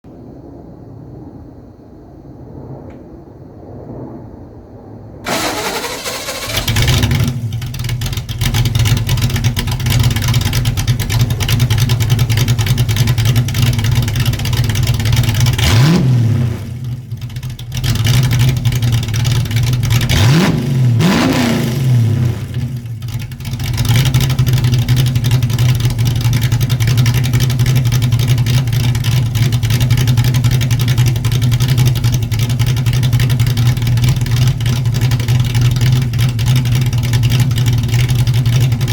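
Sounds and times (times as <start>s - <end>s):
car engine idling: 5.3s - 38.9s
car engine revving: 5.3s - 38.9s
car engine starting: 5.3s - 38.9s.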